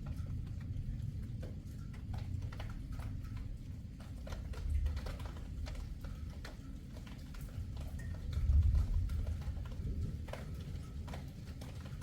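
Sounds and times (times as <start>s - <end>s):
raindrops tapping on hard surface: 0.0s - 12.0s.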